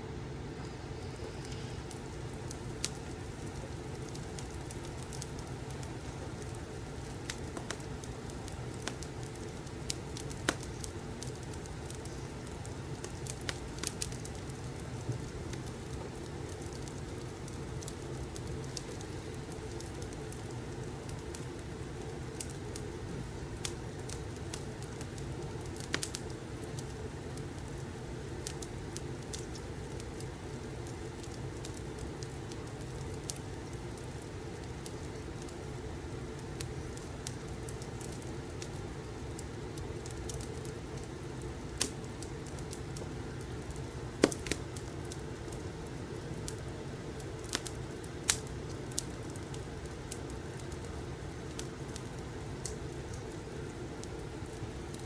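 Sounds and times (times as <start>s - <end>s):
burning logs rumbling: 0.0s - 55.0s
fire crackles and pops: 0.3s - 55.0s.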